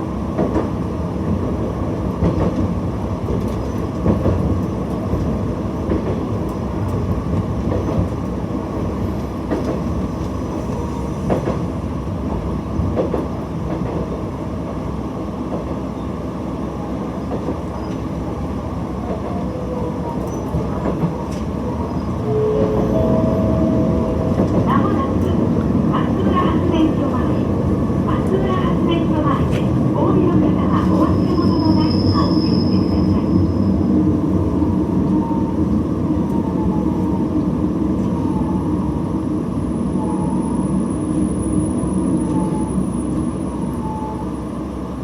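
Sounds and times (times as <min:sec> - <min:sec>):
railcar engine drone: 0:00.0 - 0:45.0.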